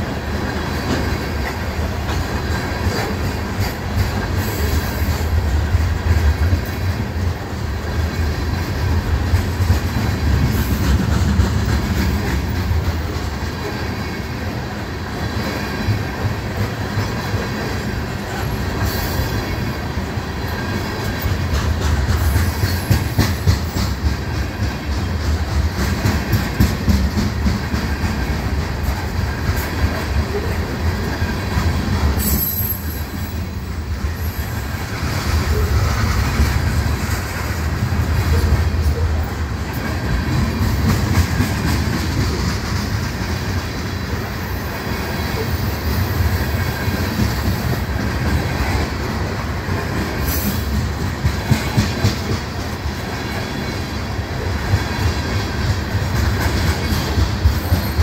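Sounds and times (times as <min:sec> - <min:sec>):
train wheels rumbling on rails: 0:00.0 - 0:58.0
wheels clacking over rail joints: 0:00.0 - 0:58.0.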